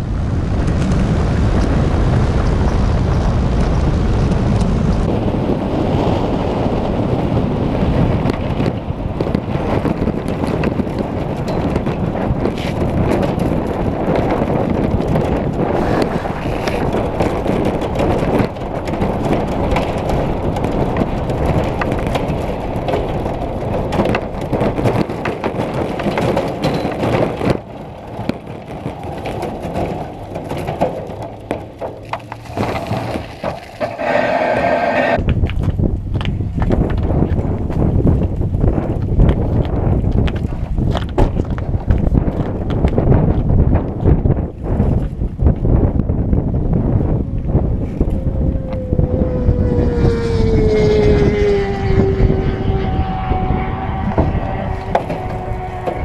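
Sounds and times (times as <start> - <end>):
pulse jet and wind rushing: 0.0 - 31.8, 32.4 - 56.0.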